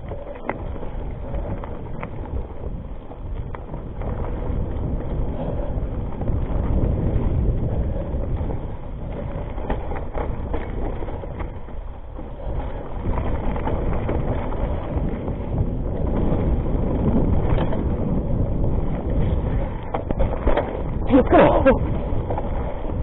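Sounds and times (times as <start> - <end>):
bike rattling over bumps: 0.0 - 23.0
tyres rolling over dirt: 0.0 - 23.0
wind buffeting microphone: 0.0 - 23.0.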